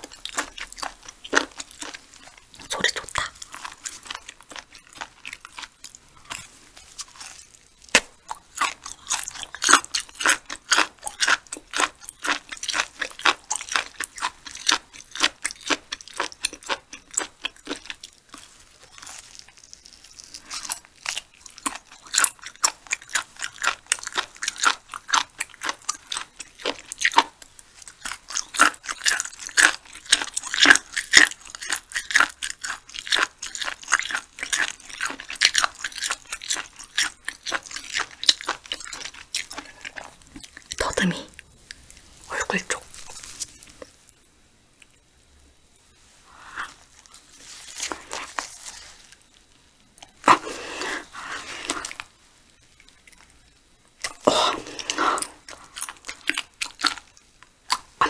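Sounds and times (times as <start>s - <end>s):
person chewing food: 0.0s - 45.0s, 46.0s - 58.0s.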